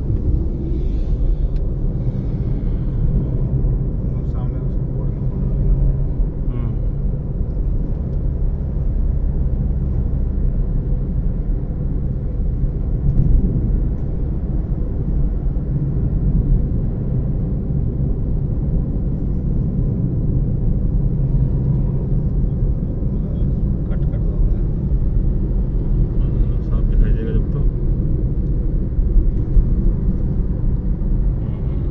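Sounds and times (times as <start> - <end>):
road noise: 0.0 - 31.9
vehicle engine rumble: 0.0 - 31.9.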